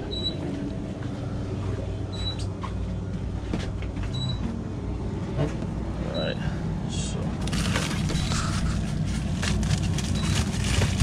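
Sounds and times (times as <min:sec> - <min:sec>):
refrigeration hum: 0:00.0 - 0:11.0.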